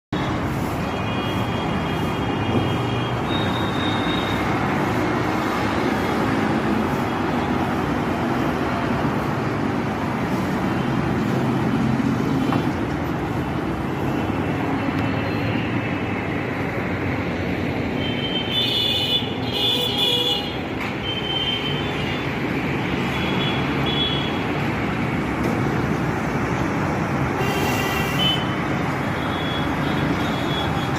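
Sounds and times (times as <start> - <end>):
road traffic noise: 0.1 - 30.9.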